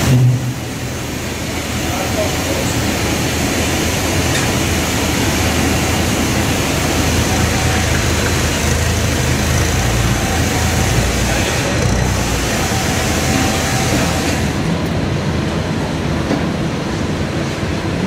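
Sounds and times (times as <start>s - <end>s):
forklift engine running: 0.0s - 18.0s.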